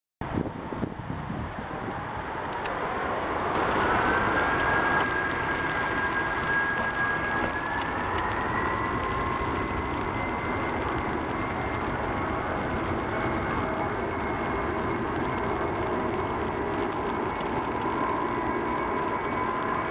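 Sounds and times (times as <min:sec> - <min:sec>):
steady rushing noise: 0:00.2 - 0:19.9
jet engines whining: 0:01.6 - 0:19.9.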